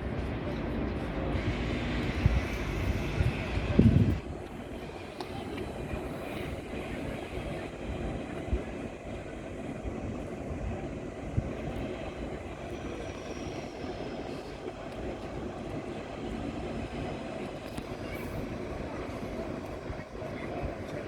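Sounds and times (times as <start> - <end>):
train rolling rumble: 0.0 - 21.0.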